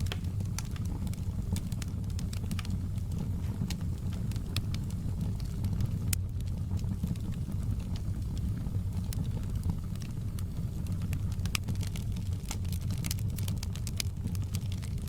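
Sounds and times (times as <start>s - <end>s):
burning logs rumble: 0.0s - 15.0s
fire pops and crackles: 0.0s - 15.0s.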